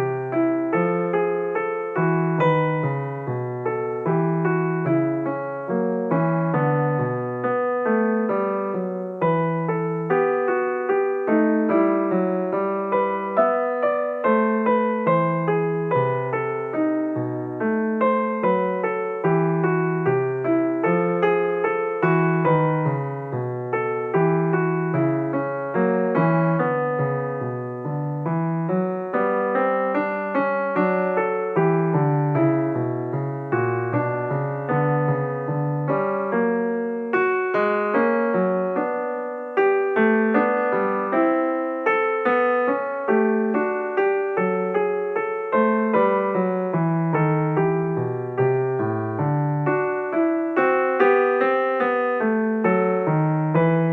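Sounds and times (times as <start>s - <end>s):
piano music: 0.0s - 53.9s.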